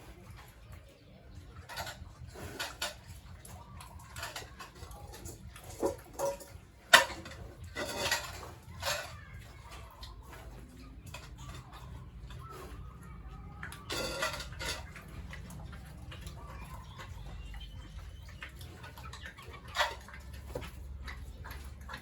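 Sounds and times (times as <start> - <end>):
clatter and scraping: 0.0 - 22.0.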